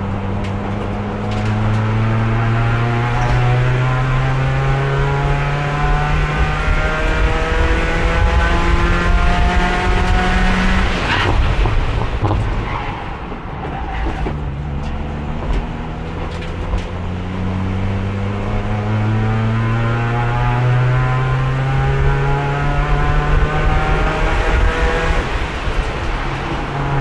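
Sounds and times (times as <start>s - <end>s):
race car engine pulling: 0.0s - 27.0s
tyre and road noise: 0.0s - 27.0s.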